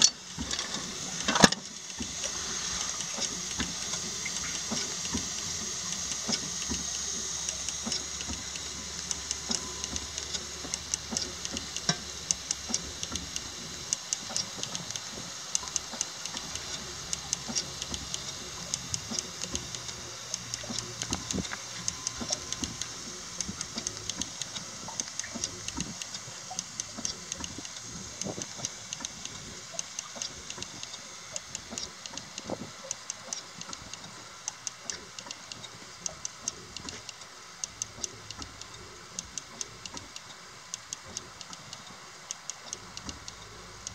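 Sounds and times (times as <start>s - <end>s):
steam engine clicking and hissing: 0.0s - 43.9s.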